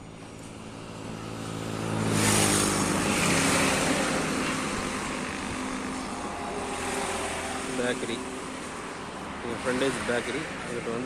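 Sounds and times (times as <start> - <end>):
vehicle passing close by: 0.5 - 11.0.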